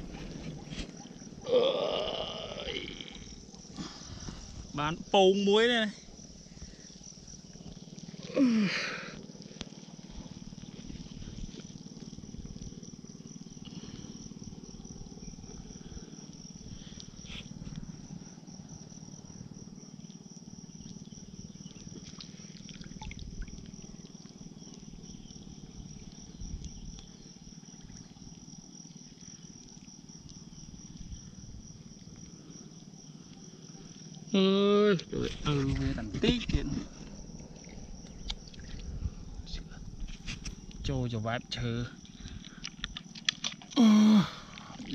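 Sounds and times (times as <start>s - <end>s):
high-pitched insect trilling: 0.0s - 44.9s.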